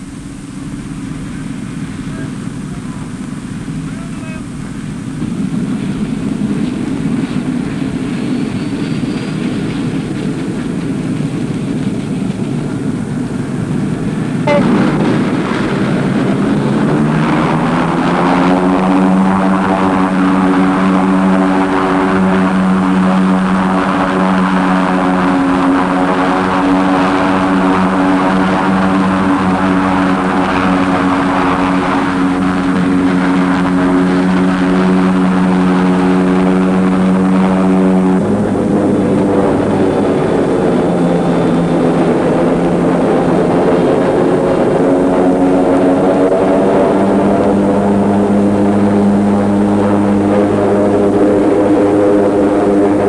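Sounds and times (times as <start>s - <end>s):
hovercraft engine and propeller drone: 0.0s - 53.0s.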